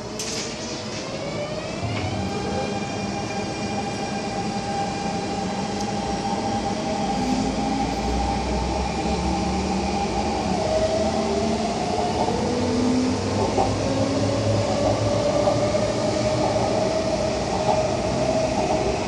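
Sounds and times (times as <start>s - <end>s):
low rumble of train wheels: 0.0s - 19.0s
train traction motors whining: 0.0s - 19.0s.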